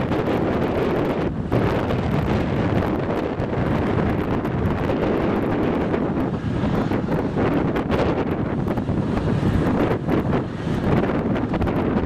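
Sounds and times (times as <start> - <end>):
helicopter running: 0.0 - 12.0
wind buffeting the microphone: 0.0 - 12.0.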